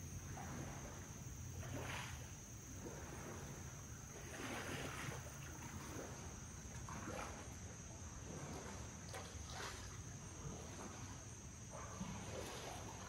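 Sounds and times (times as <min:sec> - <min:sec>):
kayak paddle swishing through water: 0:00.0 - 0:13.0.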